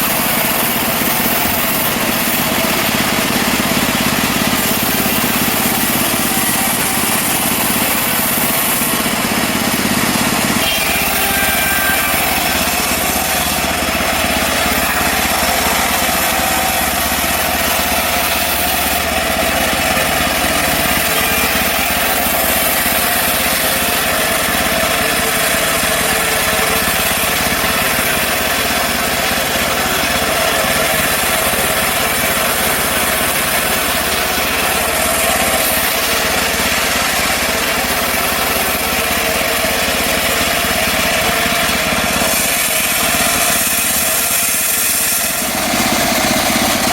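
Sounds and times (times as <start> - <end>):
bandsaw mill engine running: 0.0 - 46.9
saw blade cutting log: 0.0 - 46.9.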